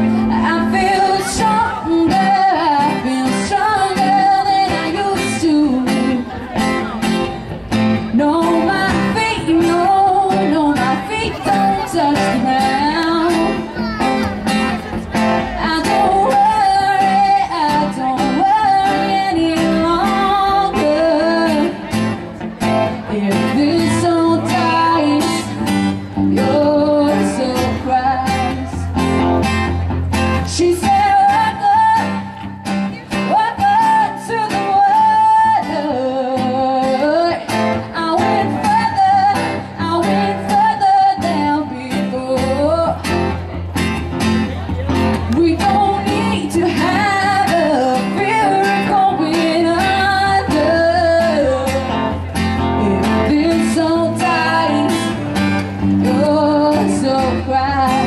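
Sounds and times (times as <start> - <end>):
electric guitar melody: 0.0 - 58.0
strummed acoustic guitar: 0.0 - 58.0.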